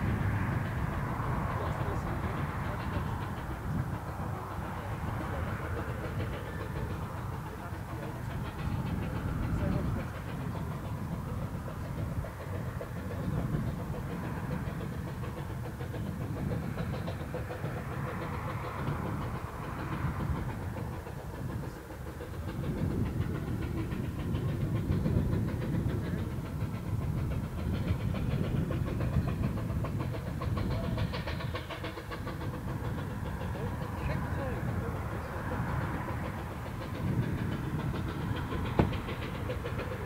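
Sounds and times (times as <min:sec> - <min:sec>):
steam engine exhaust beats: 0:00.0 - 0:40.0.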